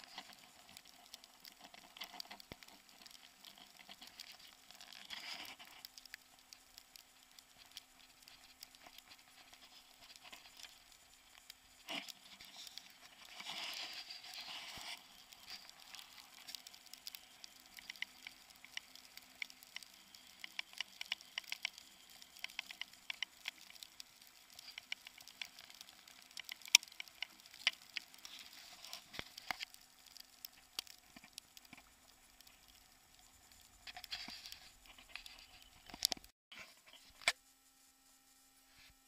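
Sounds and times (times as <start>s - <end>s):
tyres crackling on snow: 0.0s - 36.4s
faint steady hum: 0.0s - 39.0s.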